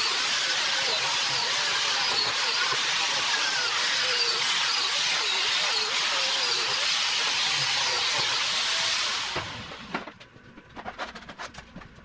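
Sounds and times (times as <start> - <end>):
power tool motor whine: 0.0 - 10.0.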